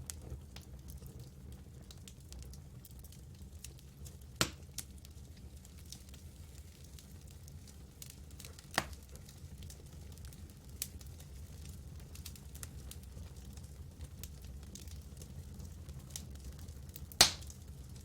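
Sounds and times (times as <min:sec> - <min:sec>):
campfire crackling: 0:00.0 - 0:18.0
fire snaps and pops: 0:00.0 - 0:18.0.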